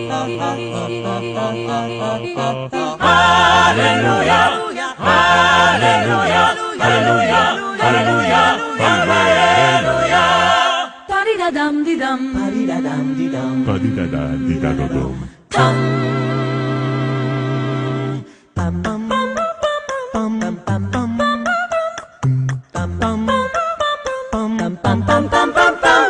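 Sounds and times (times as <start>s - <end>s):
voices singing in harmony: 0.0s - 22.2s, 22.8s - 26.0s.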